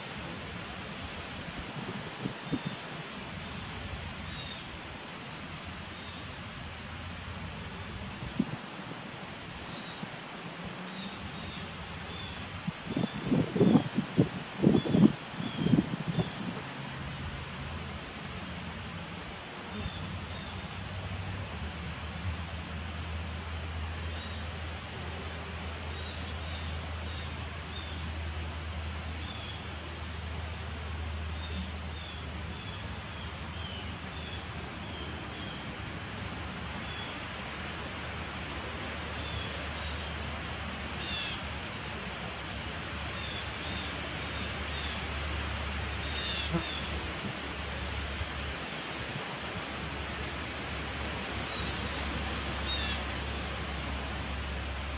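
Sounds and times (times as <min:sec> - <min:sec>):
high insect trill: 0:00.0 - 0:54.9.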